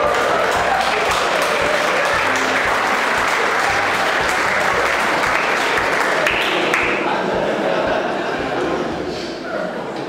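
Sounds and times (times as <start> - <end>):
crowd applauding: 0.0 - 8.5.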